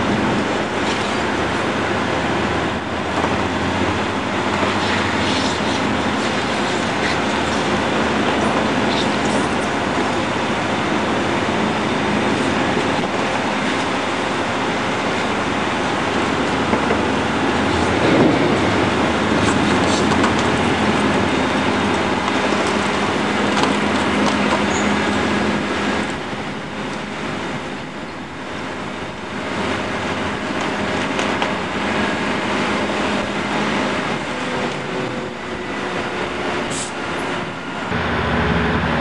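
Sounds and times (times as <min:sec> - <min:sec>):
heavy diesel truck engine rumbling: 0:00.0 - 0:39.0.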